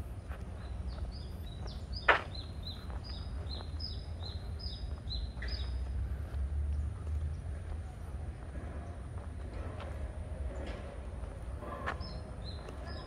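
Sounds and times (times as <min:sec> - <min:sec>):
footsteps on a paved path: 0:00.0 - 0:13.0.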